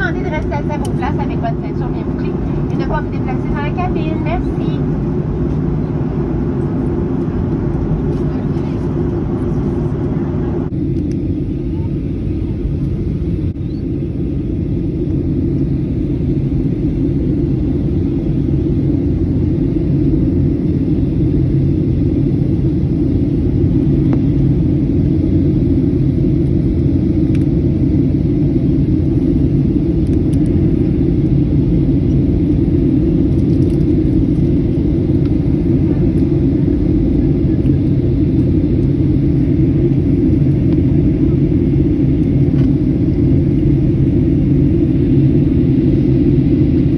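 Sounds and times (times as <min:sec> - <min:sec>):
jet engines and airflow rumbling: 0:00.0 - 0:46.9.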